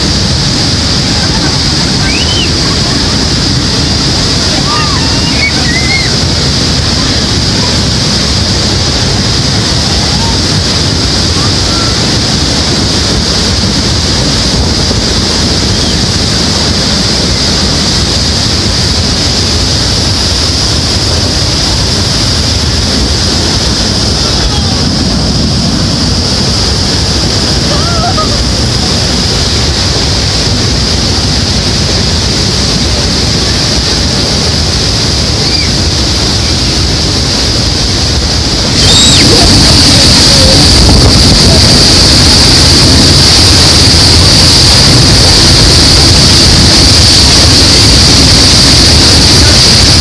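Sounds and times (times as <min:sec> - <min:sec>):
waterfall rushing: 0:00.0 - 0:50.0
wind buffeting microphone: 0:00.0 - 0:50.0.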